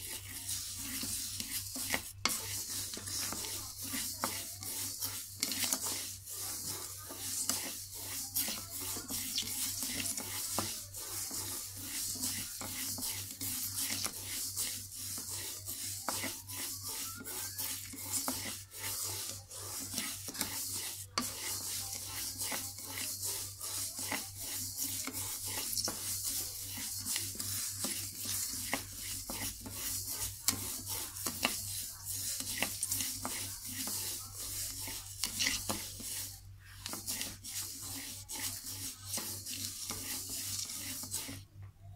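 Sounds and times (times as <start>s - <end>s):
spatula scraping rice in wok: 0.0s - 41.5s.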